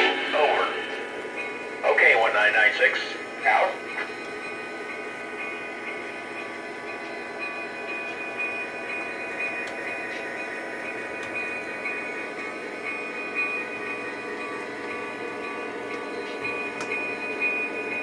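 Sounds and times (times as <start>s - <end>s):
model train humming: 0.0s - 18.0s.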